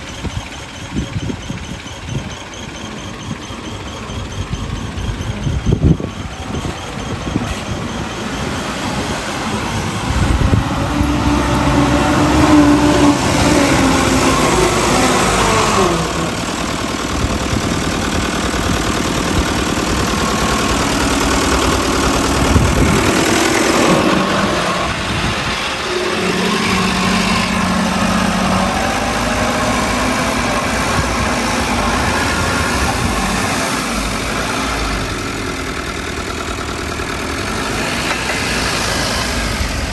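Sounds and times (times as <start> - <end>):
heavy machinery diesel engines revving: 0.0 - 39.9.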